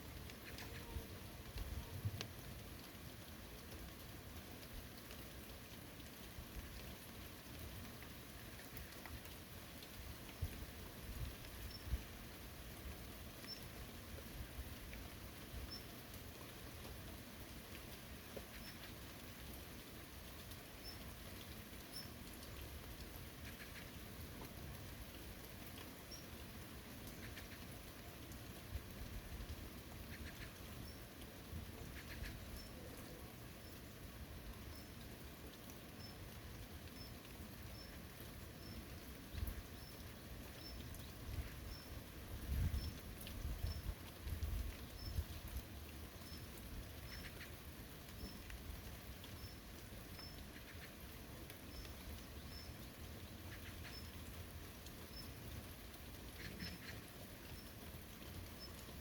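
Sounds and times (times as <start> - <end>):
rain falling in forest: 0.0 - 59.0.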